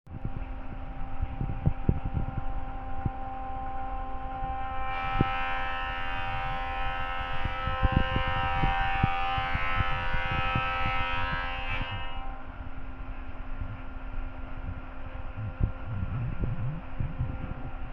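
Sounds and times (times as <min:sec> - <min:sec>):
machine humming: 0:00.2 - 0:17.9.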